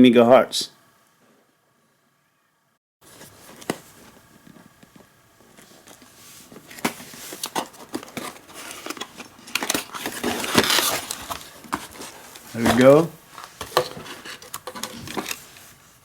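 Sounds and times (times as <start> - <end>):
packaging rustling and crinkling: 3.0 - 16.0.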